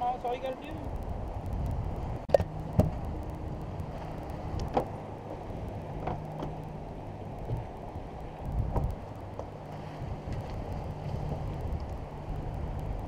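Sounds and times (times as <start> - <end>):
low steady hum: 0.0 - 13.0
water noise: 0.0 - 13.0
wind: 0.0 - 13.0.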